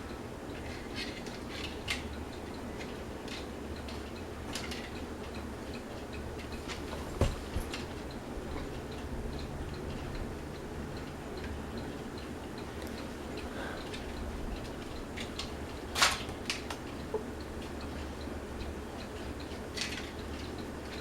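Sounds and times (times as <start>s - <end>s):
ceiling fan motor hum: 0.0s - 21.0s
light ticks and clicks: 0.0s - 21.0s.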